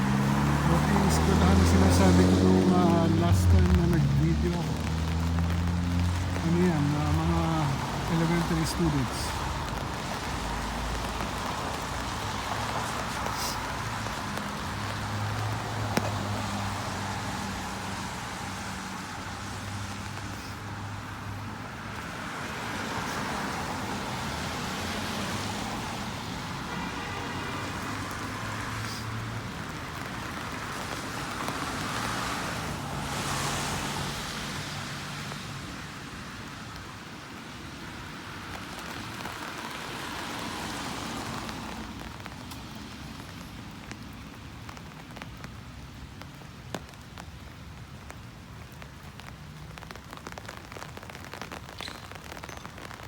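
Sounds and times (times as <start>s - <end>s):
car passing on wet street: 0.0s - 53.0s
rain falling: 0.0s - 53.0s.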